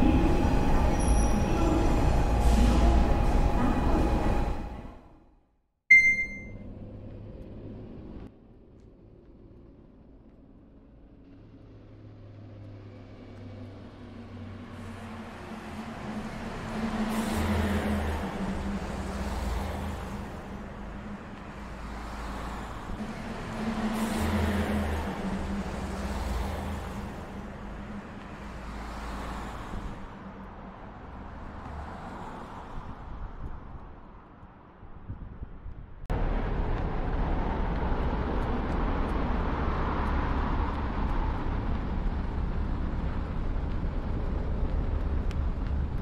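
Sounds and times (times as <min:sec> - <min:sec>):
low engine hum: 0:06.6 - 0:34.3, 0:35.0 - 0:46.0
vehicles passing: 0:06.6 - 0:46.0.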